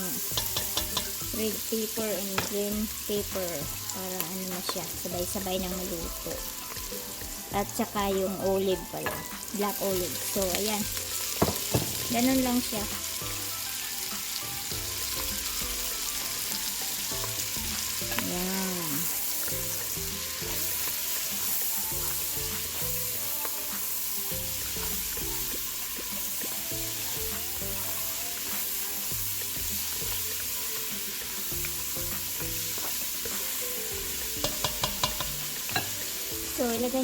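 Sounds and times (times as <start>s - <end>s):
vegetables sizzling in a pan: 0.0s - 37.0s.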